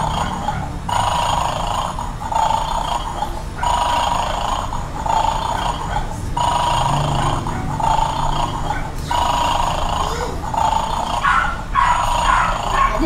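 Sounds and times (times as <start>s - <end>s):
electronic toy snoring: 0.0s - 13.0s.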